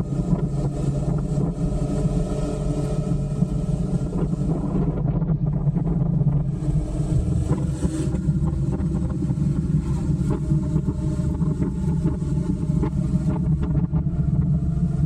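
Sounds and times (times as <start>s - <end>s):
wind noise on camera: 0.0s - 15.0s.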